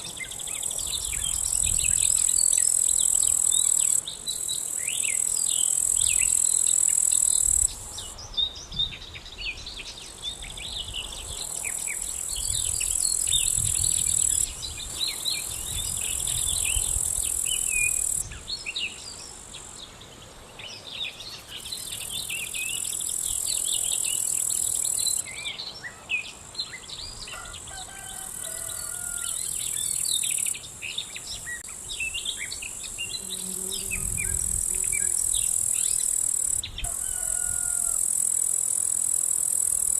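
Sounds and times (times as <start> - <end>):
insects buzzing drone: 0.0 - 8.2, 9.9 - 25.7, 26.4 - 39.9.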